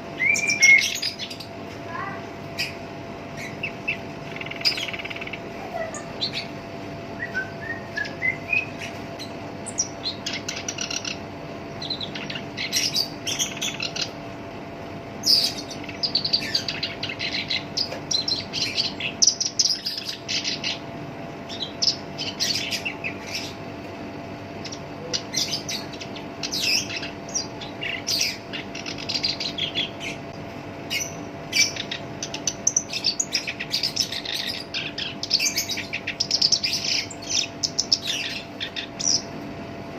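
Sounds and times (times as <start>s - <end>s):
bird singing scratchy song: 0.0s - 14.2s, 15.2s - 23.6s, 24.5s - 39.4s
faint steady hum: 0.0s - 39.9s.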